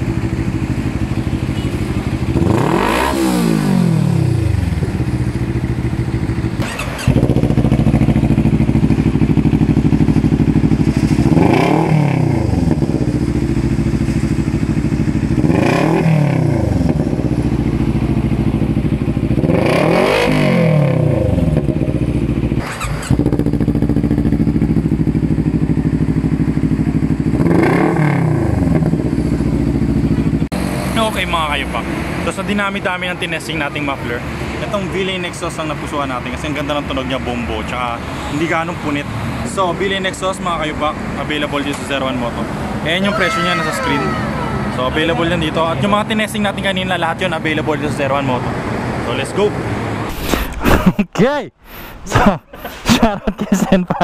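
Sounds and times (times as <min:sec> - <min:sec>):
motorcycle engine idling and revving: 0:00.0 - 0:50.1.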